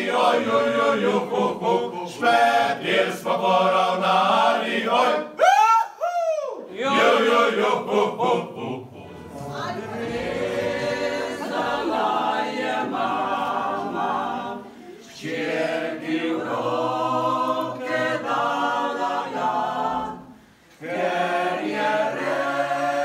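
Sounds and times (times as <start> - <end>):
men's vocal ensemble singing: 0.0 - 5.3, 6.7 - 23.0
mixed choir singing: 0.0 - 5.4, 6.7 - 23.0.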